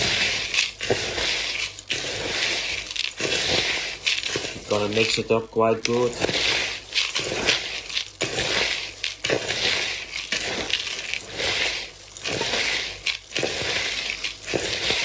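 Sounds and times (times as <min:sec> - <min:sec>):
dry grain feed rattling swish: 0:00.0 - 0:15.0.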